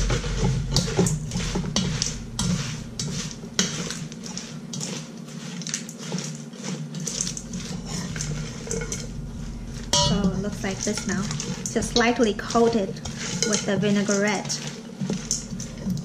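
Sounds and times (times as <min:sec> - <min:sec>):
utensil scraping metal bowl: 0:00.0 - 0:16.0.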